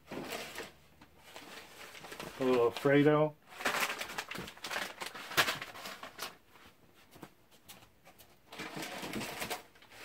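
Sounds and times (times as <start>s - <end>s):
packages rustling: 0.0s - 10.0s.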